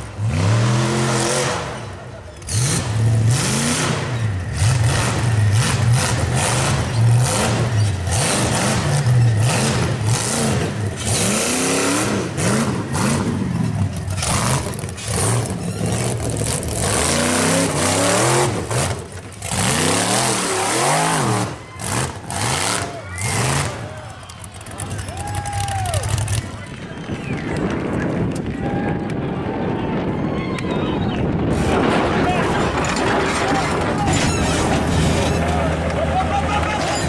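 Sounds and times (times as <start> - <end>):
truck engine revving: 0.0 - 27.1, 31.3 - 37.0.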